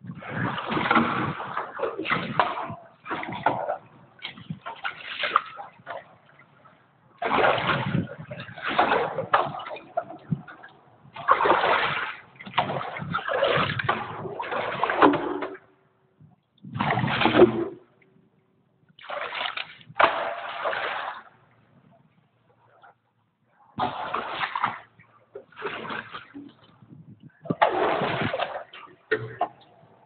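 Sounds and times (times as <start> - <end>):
water splashing around waders: 0.0 - 15.7, 16.6 - 18.0, 19.0 - 22.0, 23.6 - 30.0.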